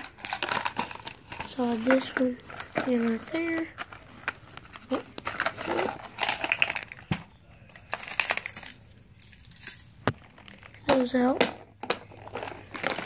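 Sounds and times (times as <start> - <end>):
plastic cases clicking and clattering: 0.0 - 13.0.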